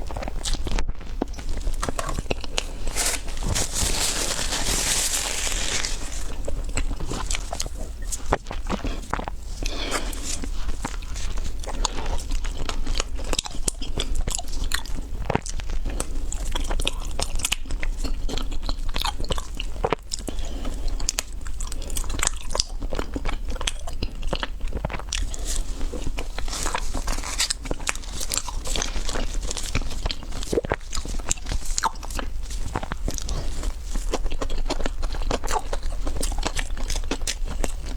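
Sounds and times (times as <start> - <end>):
crisp biting and chewing: 0.0 - 37.9.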